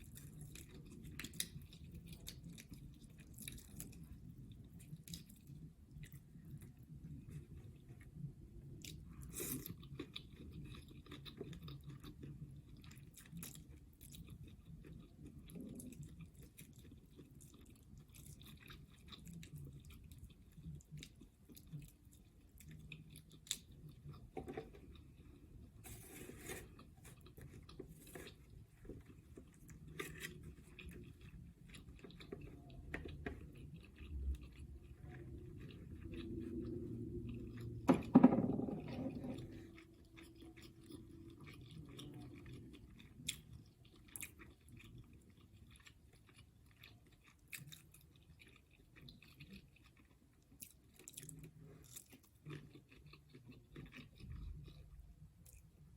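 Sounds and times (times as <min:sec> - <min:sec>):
person chewing: 0:00.0 - 0:37.8, 0:39.0 - 0:55.9.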